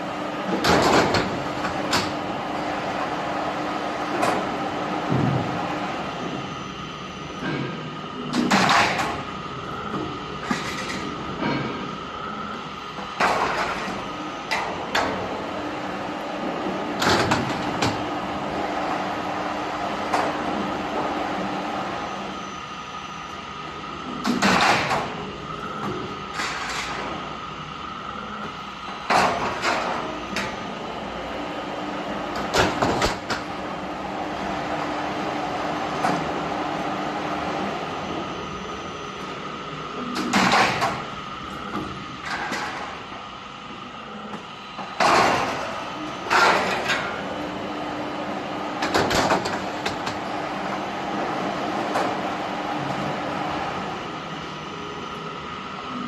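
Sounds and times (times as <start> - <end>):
machine humming: 0.0 - 56.0.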